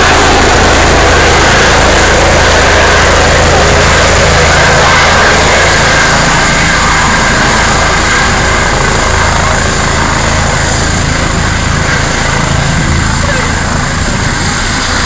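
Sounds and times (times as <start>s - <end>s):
helicopter turbine and rotor: 0.0s - 15.0s.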